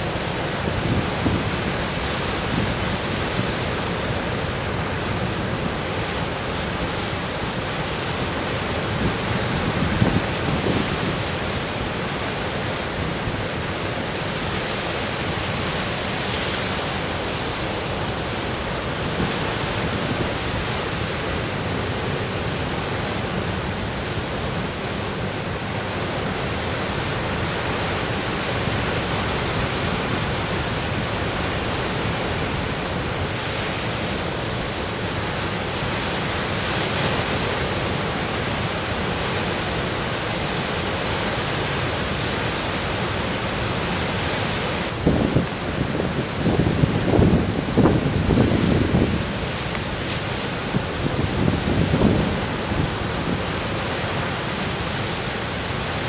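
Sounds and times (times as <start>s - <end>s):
storm waves breaking: 0.0s - 56.0s.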